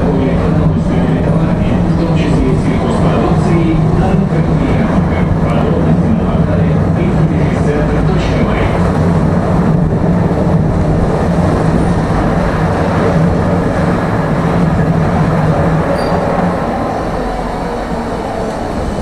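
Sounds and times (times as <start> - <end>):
tram wheels rumbling on track: 0.0 - 19.0.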